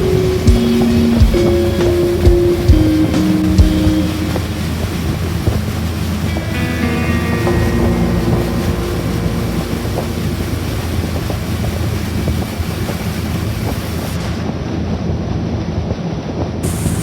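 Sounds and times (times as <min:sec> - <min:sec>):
water rushing past hull: 0:00.0 - 0:15.6
boat engine drone: 0:00.0 - 0:17.0.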